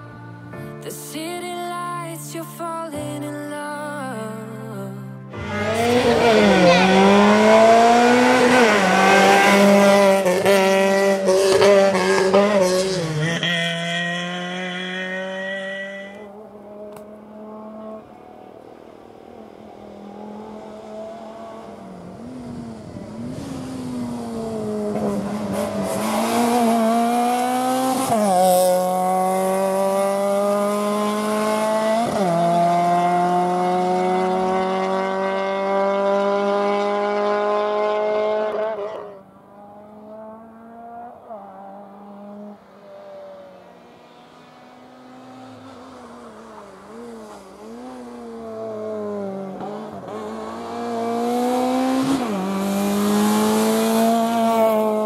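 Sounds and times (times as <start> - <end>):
car engine revving hard: 5.4 - 18.5, 19.5 - 42.6, 43.2 - 55.0
quieter engine revving up and down: 5.4 - 55.0.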